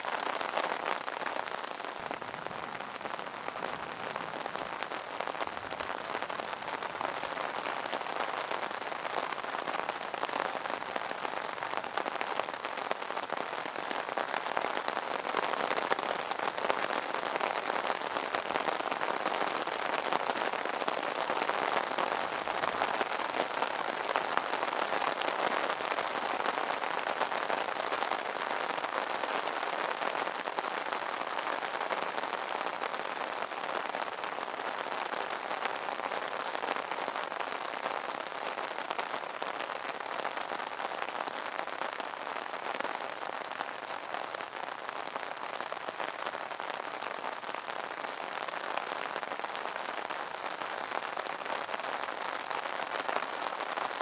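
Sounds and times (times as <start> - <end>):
rain drumming on umbrella: 0.0 - 54.0.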